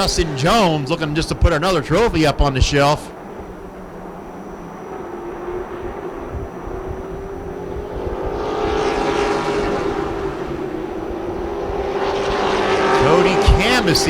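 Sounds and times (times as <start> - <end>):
racing truck engines droning: 0.0 - 14.0.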